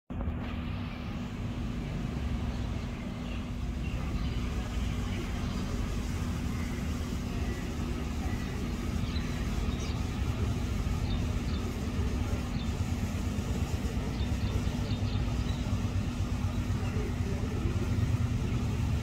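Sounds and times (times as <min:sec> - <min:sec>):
constant hum: 0:00.1 - 0:19.0
road traffic rumble: 0:00.1 - 0:19.0
small birds chirping: 0:00.7 - 0:19.0.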